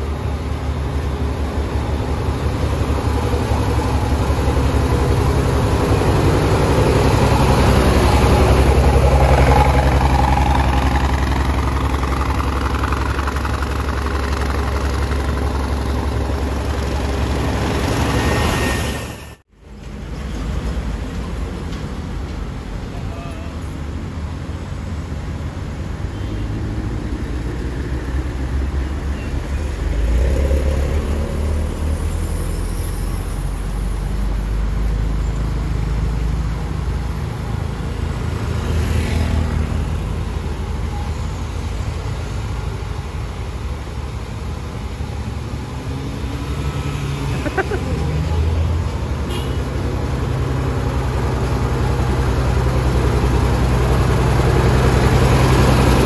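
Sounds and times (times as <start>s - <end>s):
bus diesel engine labouring: 0.0s - 56.0s
traffic: 0.0s - 56.0s.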